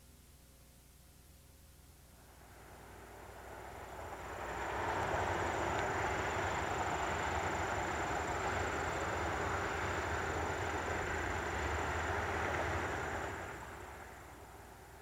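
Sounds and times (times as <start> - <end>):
distant highway traffic hum: 2.2 - 15.0.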